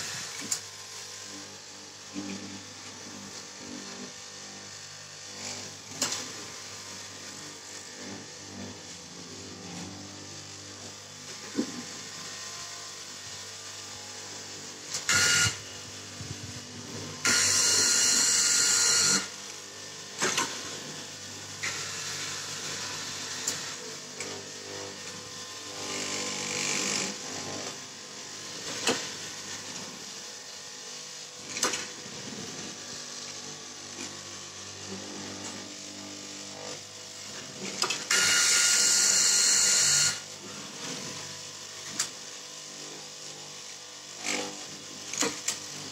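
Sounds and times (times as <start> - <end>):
cloth cutting machine buzzing: 0.0 - 45.9.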